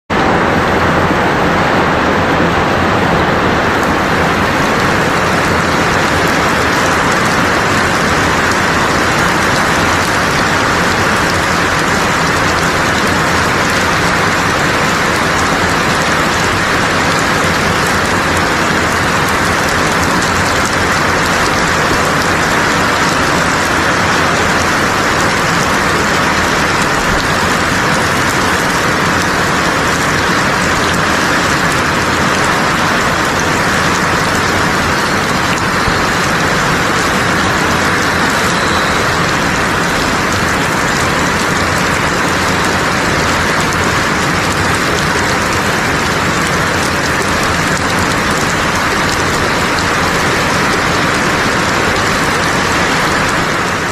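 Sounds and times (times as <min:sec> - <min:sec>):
loud steady water noise: 0:00.0 - 0:53.9.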